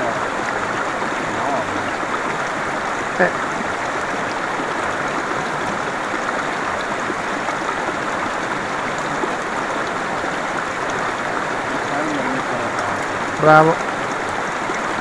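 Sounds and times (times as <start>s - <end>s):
river rushing over white water: 0.0s - 15.0s.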